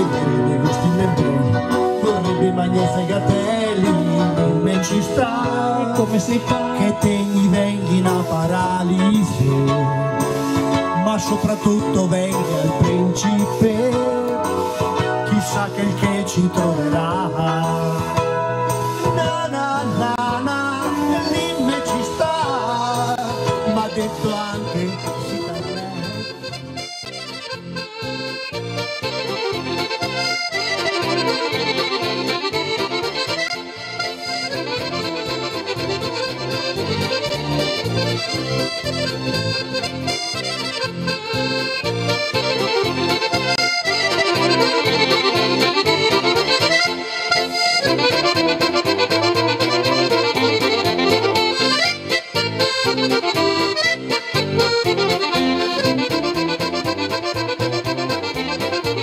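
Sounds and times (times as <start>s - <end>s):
piano accordion playing: 0.0s - 59.0s
steady rhythmic beat: 0.0s - 59.0s.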